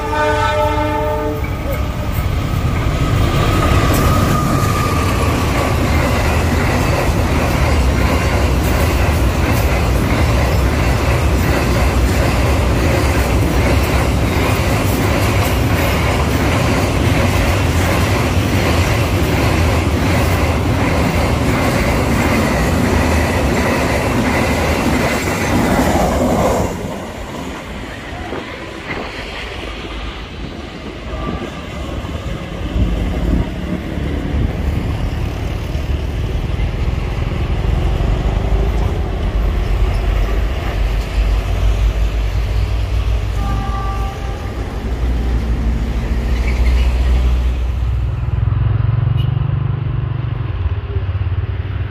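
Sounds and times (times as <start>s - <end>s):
freight train wheels squealing on rails: 1.2s - 36.2s, 37.1s - 47.8s.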